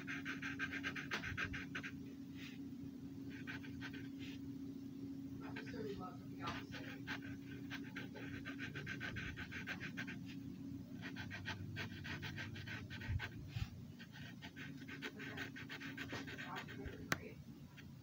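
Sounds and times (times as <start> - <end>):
marker rubbing on paper: 0.0 - 2.6, 3.3 - 4.4, 5.4 - 10.4, 11.0 - 17.9
faint steady hum: 0.0 - 18.0.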